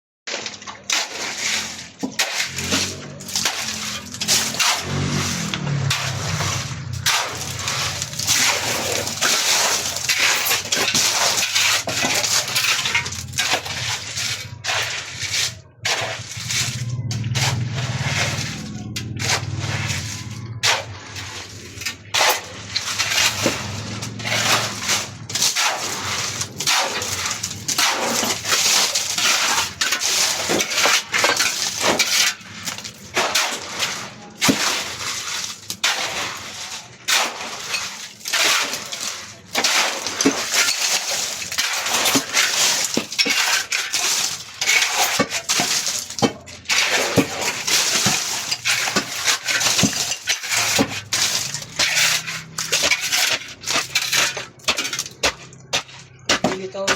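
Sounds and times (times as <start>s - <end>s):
rubble crunching and scraping: 0.3s - 56.9s.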